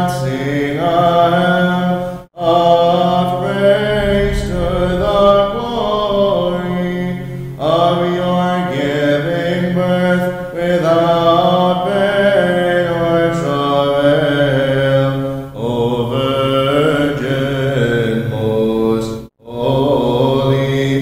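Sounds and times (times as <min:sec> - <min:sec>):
man chanting liturgical text: 0:00.0 - 0:21.0.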